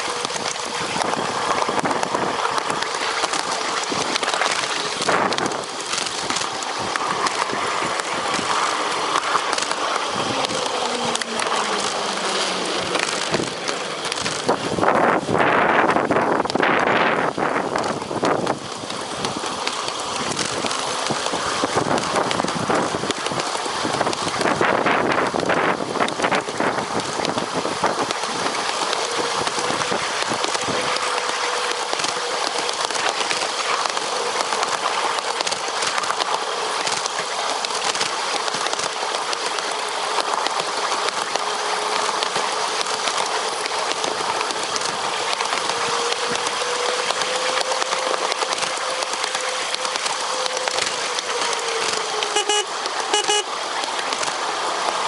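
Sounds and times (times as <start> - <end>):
rail speeder wheels rattling: 0.0 - 55.0.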